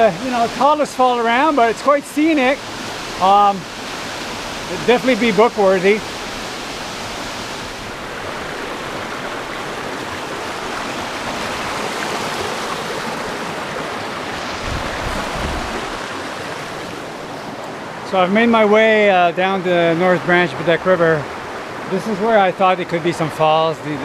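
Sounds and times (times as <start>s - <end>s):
stream water rushing over rocks: 0.0s - 24.0s.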